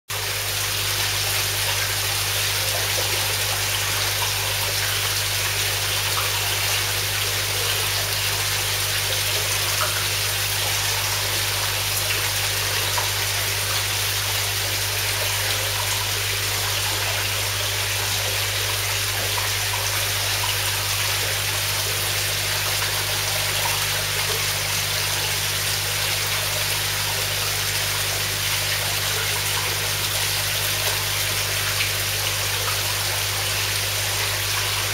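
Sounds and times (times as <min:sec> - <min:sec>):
running water splashing: 0:00.1 - 0:34.9.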